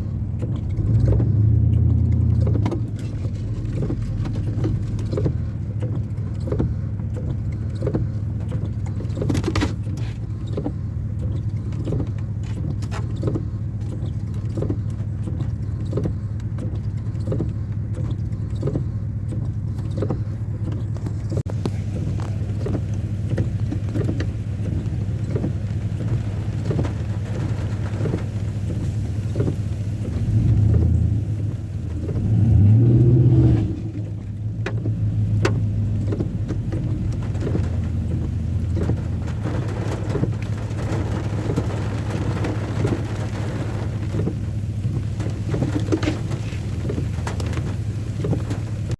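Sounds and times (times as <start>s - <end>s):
engine humming: 0.0s - 48.9s
low rumbles: 0.0s - 48.9s.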